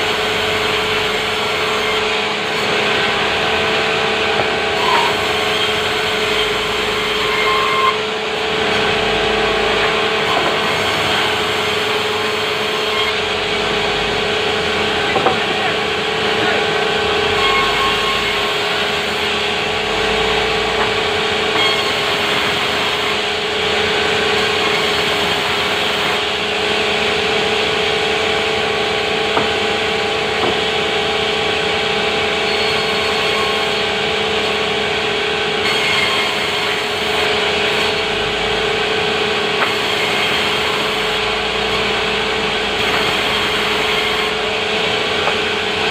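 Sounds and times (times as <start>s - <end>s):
sawmill saw whine: 0.0s - 45.9s.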